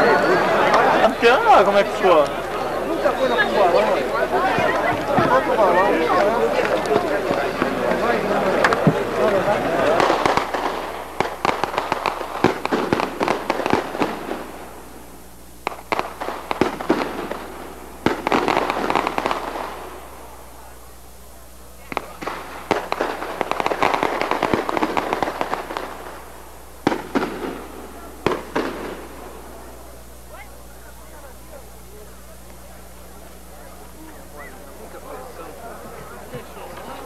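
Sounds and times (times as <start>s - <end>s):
firecrackers popping: 0.0s - 37.0s.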